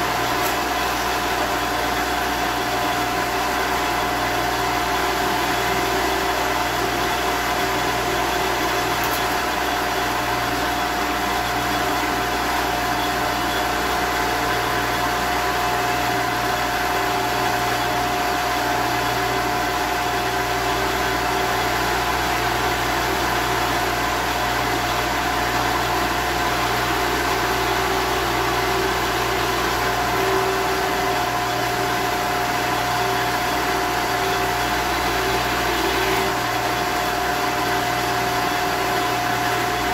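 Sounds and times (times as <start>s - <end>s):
drill bit boring into wood: 0.0s - 39.9s
drill press motor hum and whine: 0.0s - 39.9s.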